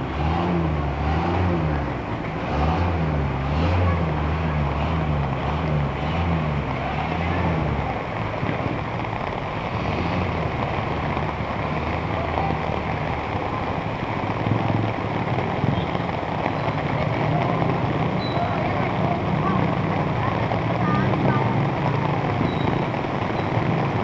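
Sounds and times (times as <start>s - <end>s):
heavy rain: 0.0s - 24.0s
vehicles driving through water: 0.0s - 24.0s.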